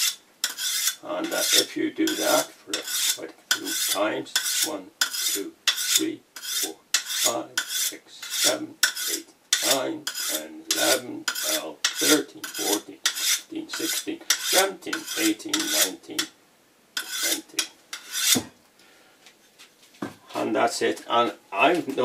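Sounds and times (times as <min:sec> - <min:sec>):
sharpening stone scraping steel blade: 0:00.0 - 0:16.3, 0:17.0 - 0:18.4.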